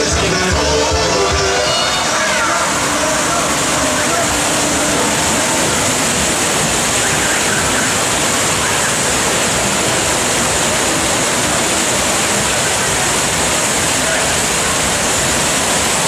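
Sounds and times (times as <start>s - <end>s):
water rushing down a flume: 0.0s - 16.0s.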